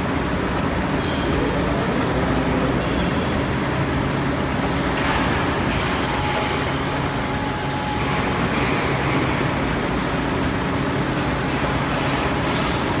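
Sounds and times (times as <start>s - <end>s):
industrial machinery rumble and hiss: 0.0s - 13.0s.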